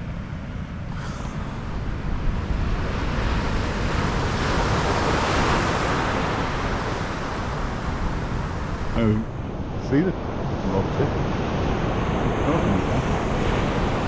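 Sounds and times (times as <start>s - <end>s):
surf breaking on shore: 1.0s - 14.0s.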